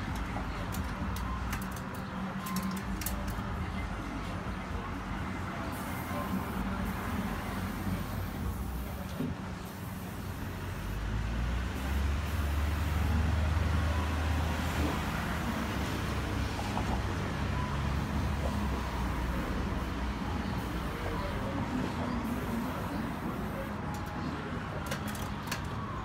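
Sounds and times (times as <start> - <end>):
road noise: 0.0 - 26.0
vehicle engine rumble: 0.0 - 26.0.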